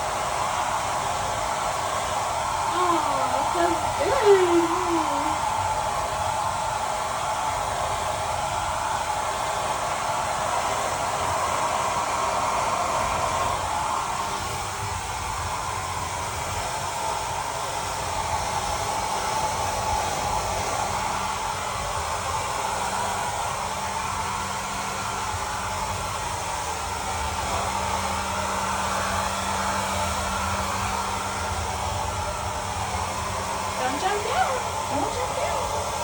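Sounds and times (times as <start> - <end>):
blow dryer running: 0.0 - 36.0.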